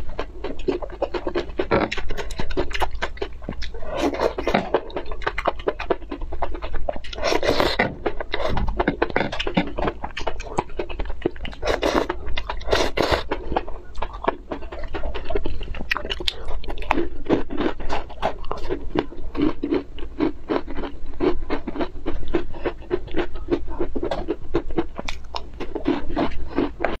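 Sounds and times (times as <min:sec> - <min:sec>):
person chewing soft food: 0:00.0 - 0:27.0.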